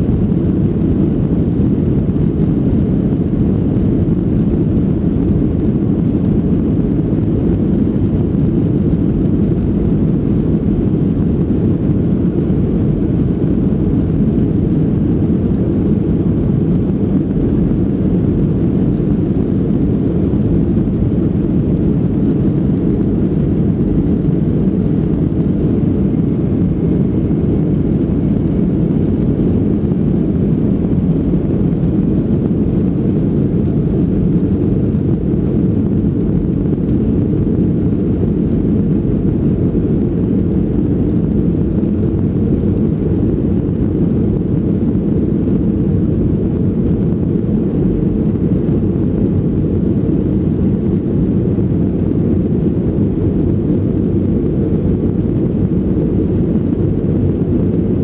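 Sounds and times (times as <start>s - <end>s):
jet engine cabin rumble: 0.0s - 58.0s.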